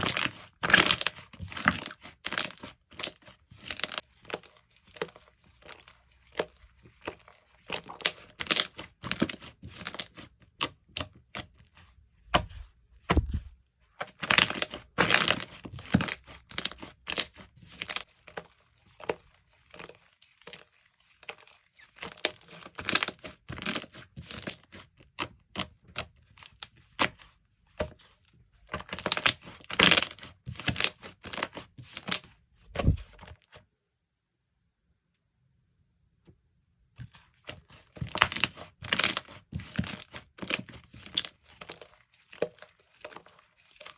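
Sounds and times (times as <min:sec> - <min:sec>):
slime squished with sticky crackles: 0:00.0 - 0:13.4, 0:14.0 - 0:27.3, 0:28.7 - 0:33.2, 0:37.1 - 0:43.9.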